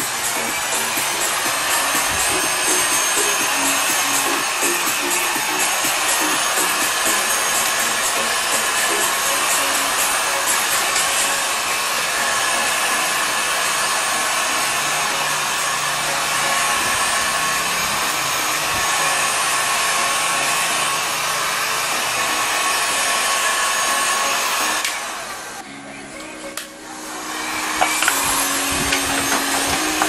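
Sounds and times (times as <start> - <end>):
hot air gun running: 0.0 - 25.6, 27.1 - 30.0.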